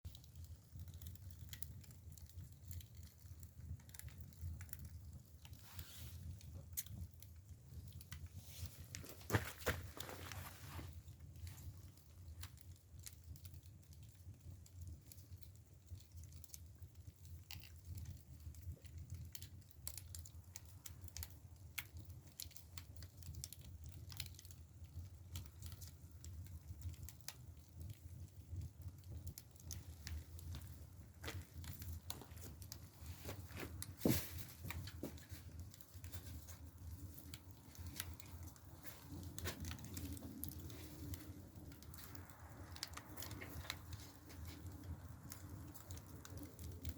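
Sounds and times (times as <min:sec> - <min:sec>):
firewood crackling and popping: 0:00.0 - 0:46.9
low fire rumble: 0:00.1 - 0:46.9.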